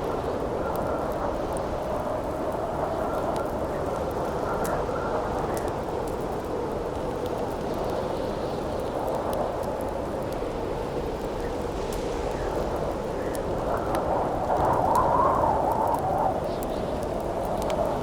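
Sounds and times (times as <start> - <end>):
campfire crackling: 0.0 - 18.0
howling wind: 0.0 - 18.0.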